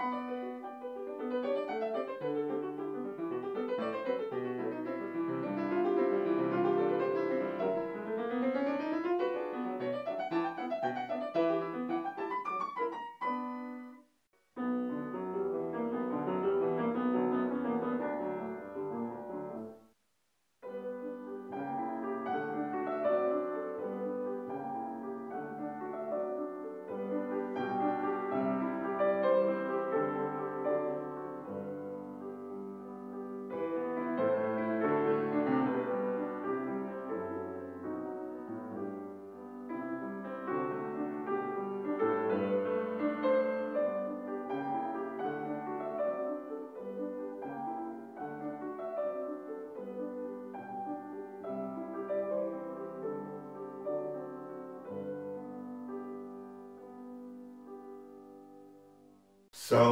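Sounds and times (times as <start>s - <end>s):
grand piano playing: 0.0s - 14.0s, 14.6s - 19.8s, 20.6s - 59.0s.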